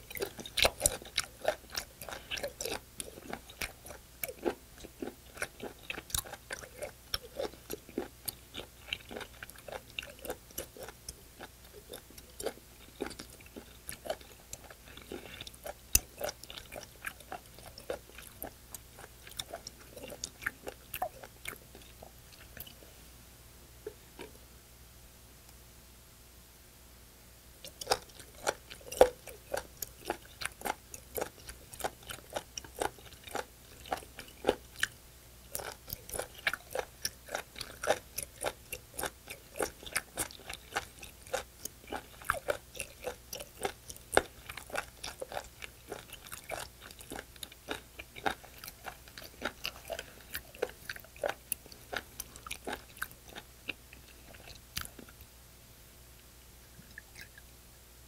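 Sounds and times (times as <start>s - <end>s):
chewing raw seafood clicks: 0.0s - 22.8s, 27.6s - 55.2s.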